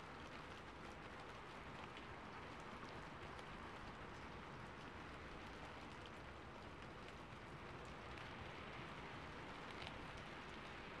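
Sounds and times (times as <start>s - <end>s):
rain on a rooftop: 0.0s - 11.0s.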